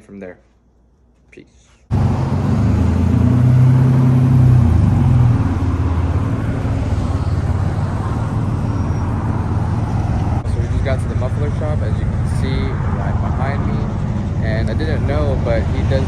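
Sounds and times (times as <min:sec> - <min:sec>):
car engine droning: 0:01.9 - 0:16.0.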